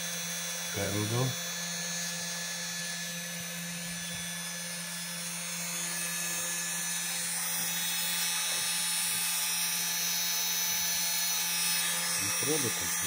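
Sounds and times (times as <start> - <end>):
cnc spindle motor hum with whine: 0.0 - 13.0.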